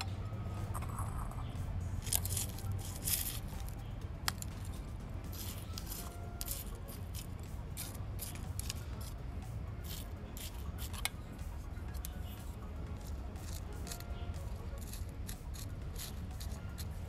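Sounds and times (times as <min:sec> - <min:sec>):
steady low hum: 0:00.0 - 0:17.0
gritty soil scraping and crunching: 0:00.6 - 0:09.2, 0:09.8 - 0:11.1, 0:13.0 - 0:17.0.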